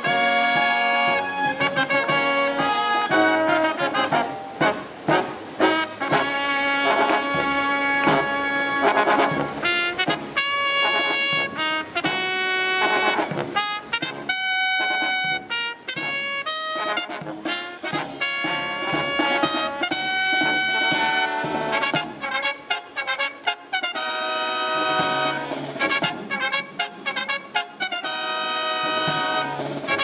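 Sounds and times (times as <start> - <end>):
marching brass band playing: 0.0 - 30.0
snare and bass drum strokes: 0.0 - 30.0.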